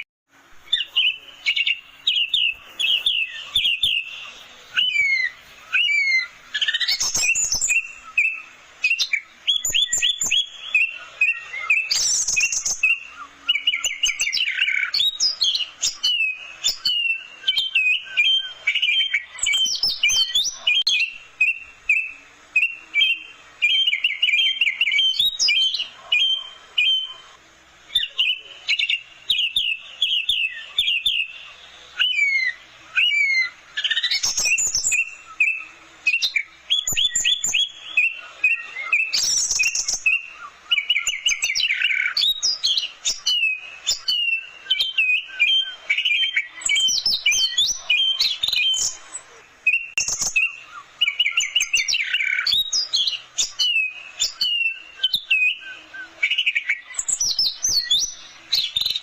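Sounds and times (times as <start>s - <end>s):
thrush singing whistles and trills: 0.0s - 59.0s.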